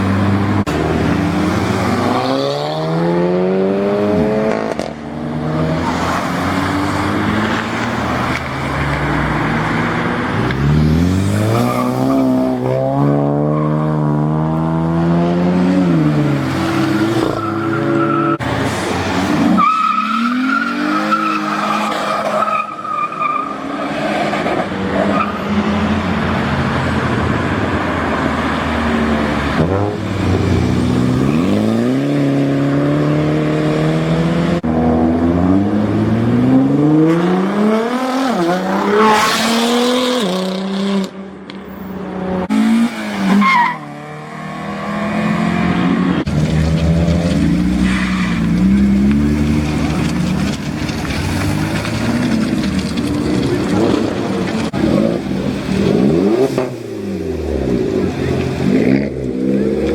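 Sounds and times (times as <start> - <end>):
car engines revving up: 0.0 - 22.4, 24.3 - 59.9.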